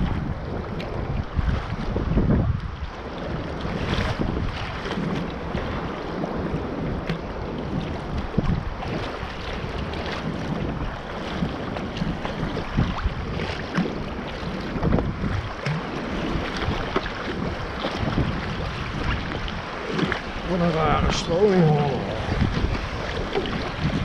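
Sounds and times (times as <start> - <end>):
water splashing around kayak: 0.0 - 24.0
wind buffeting microphone: 0.0 - 24.0.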